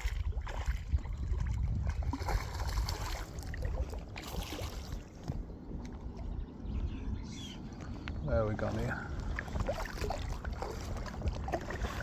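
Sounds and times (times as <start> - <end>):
small water splashes: 0.0 - 6.4, 7.6 - 12.0
wind rumbling on microphone: 0.0 - 12.0.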